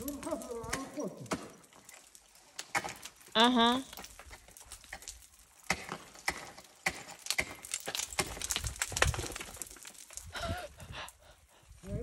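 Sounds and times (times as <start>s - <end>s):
ice climbing gear on ice: 0.0s - 12.0s.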